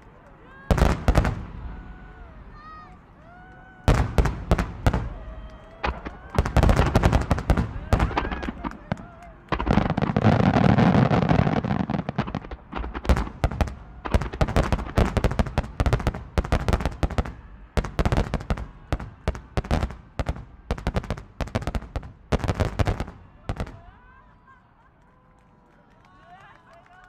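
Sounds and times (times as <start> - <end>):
fireworks crackling: 0.0 - 24.2
fireworks bursting: 0.7 - 3.1, 3.8 - 24.0.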